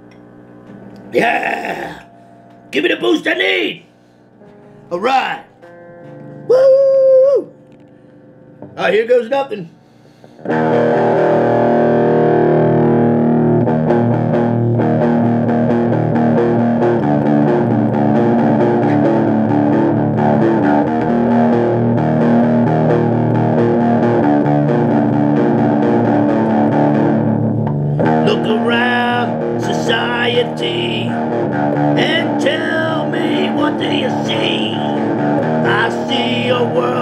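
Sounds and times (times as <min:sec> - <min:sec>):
distorted electric guitar riff: 0:00.0 - 0:06.6, 0:09.8 - 0:37.0.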